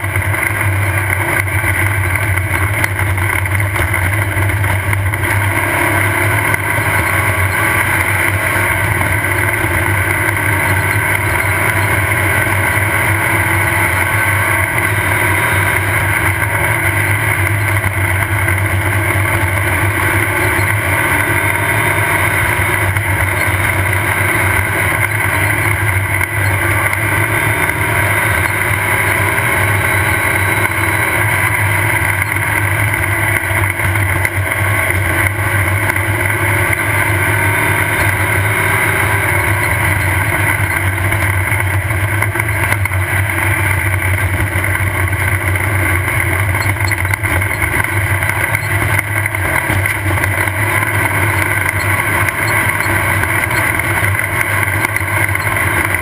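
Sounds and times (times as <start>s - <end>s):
race car engine drone: 0.0s - 56.0s.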